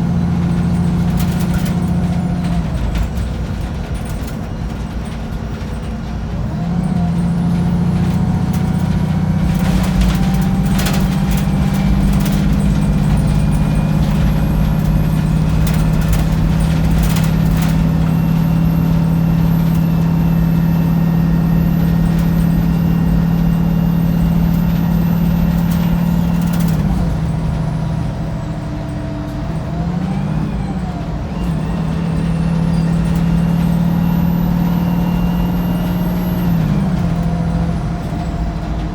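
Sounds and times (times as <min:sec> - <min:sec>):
bus body rattles: 0:00.0 - 0:38.9
bus diesel engine droning: 0:00.0 - 0:38.9.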